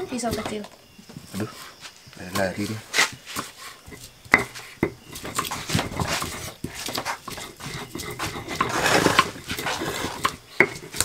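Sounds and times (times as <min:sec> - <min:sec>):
rough scraping: 0:01.4 - 0:11.0.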